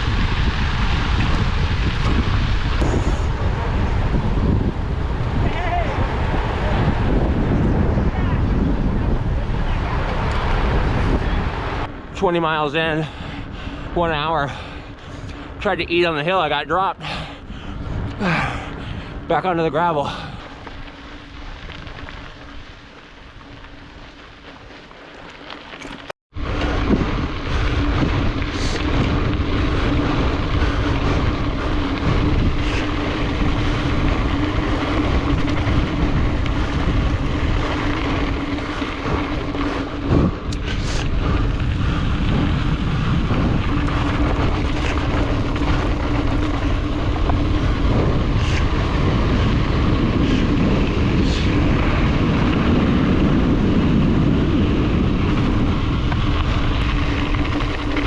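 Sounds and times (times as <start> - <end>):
wind rushing over microphone: 0.0 - 24.7, 26.0 - 58.0
bike tyres rolling on gravel: 0.0 - 58.0.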